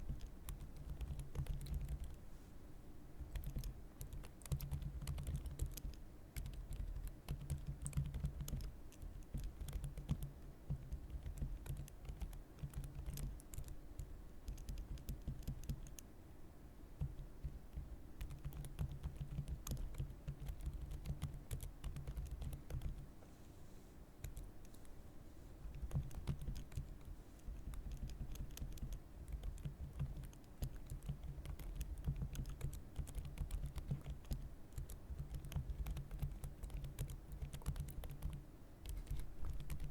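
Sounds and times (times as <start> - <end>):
typing on computer keyboard: 0.0 - 2.2, 3.3 - 16.0, 17.0 - 23.1, 24.2 - 24.8, 25.6 - 39.9.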